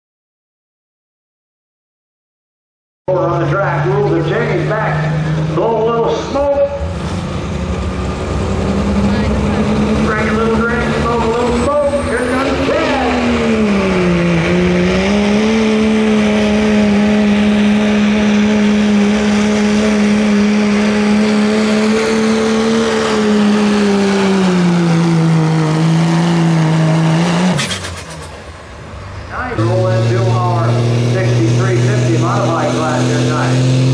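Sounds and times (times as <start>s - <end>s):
diesel truck engine under heavy load: 3.1s - 33.9s.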